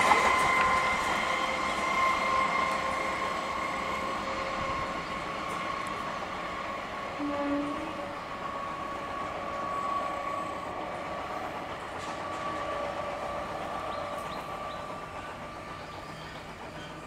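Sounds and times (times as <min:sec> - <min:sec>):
electric train running with whine: 0:00.0 - 0:17.0.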